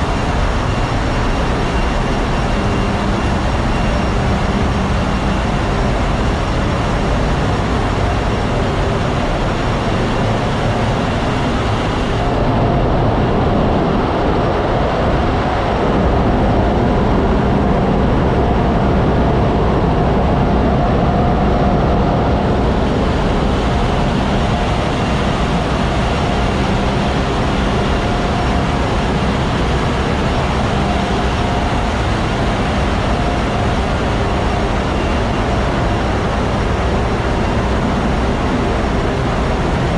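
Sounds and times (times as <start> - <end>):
engine room machinery drone: 0.0 - 39.9.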